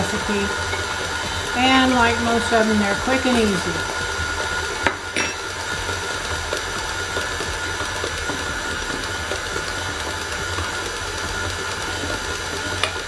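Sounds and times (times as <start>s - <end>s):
electric mixer running: 0.0s - 13.0s.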